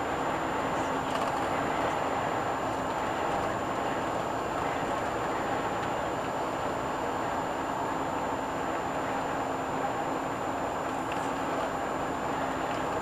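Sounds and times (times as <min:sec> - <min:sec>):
engine drone: 0:00.0 - 0:13.0
road and tyre noise: 0:00.0 - 0:13.0.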